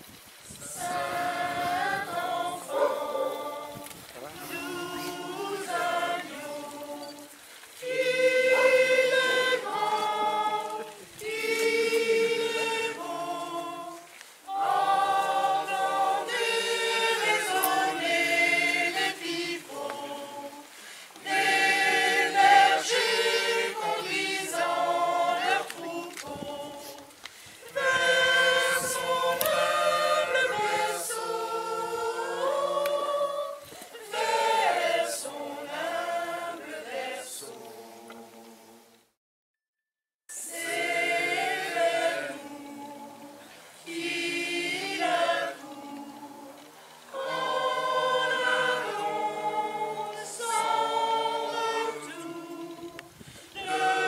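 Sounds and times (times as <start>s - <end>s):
choir singing: 0.6s - 39.0s, 40.3s - 54.0s.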